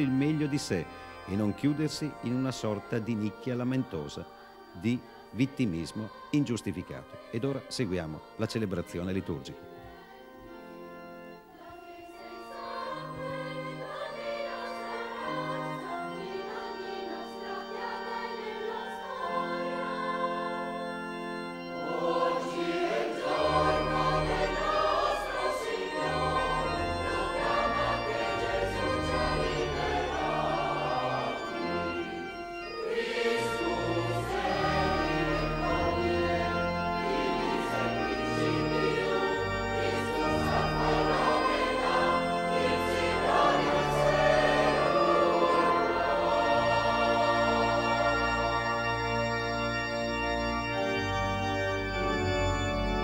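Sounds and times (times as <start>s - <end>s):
choir singing a hymn: 0.0s - 53.0s
church organ: 0.0s - 53.0s.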